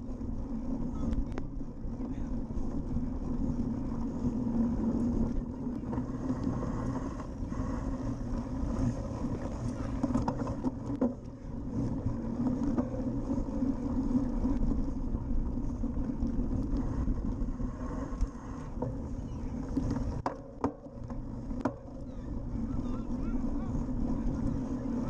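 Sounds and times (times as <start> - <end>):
wind on microphone: 0.0 - 20.2, 21.2 - 25.0
bike tyres on dirt: 0.0 - 25.0.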